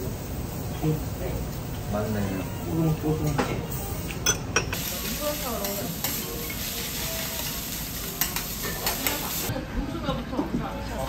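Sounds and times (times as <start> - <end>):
rice sizzling on griddle: 0.0 - 9.5.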